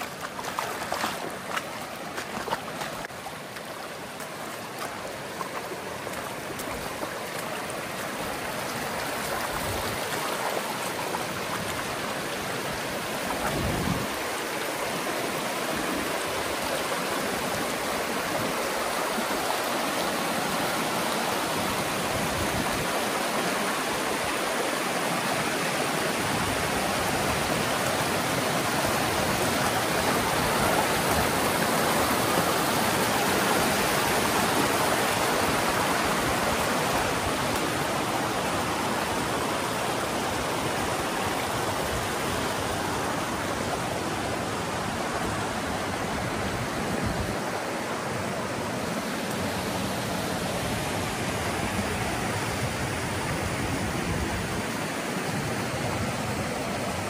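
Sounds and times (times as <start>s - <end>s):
mountain river rushing: 0.0s - 57.0s.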